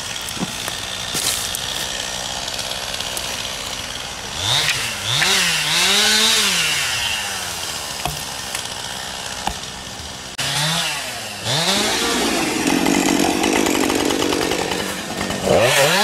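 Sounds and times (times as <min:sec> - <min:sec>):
chainsaw idling and revving: 0:00.0 - 0:16.0.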